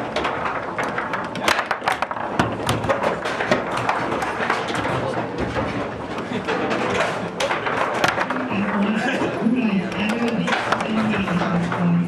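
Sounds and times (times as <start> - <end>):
foosball ball knocking: 0.0 - 9.0, 9.6 - 12.0.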